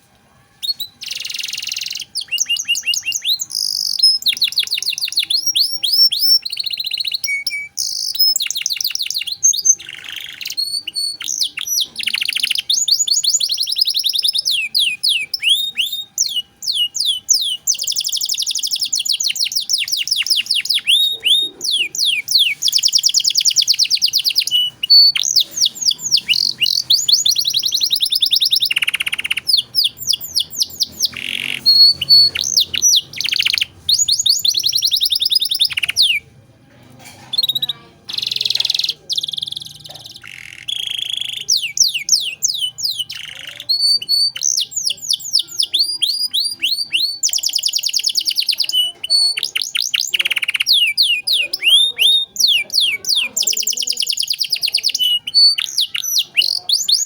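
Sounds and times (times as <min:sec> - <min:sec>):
canary singing trills: 0:00.6 - 0:36.4, 0:37.0 - 0:57.0.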